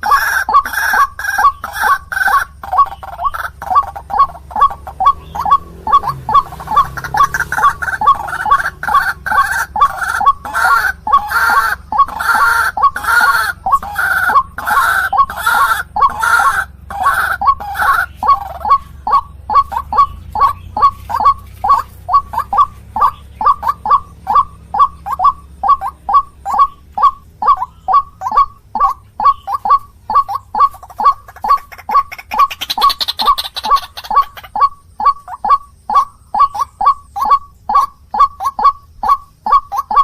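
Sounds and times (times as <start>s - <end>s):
loud harsh bird call: 0.0s - 40.0s
waterhen short repeated calls: 0.0s - 40.0s.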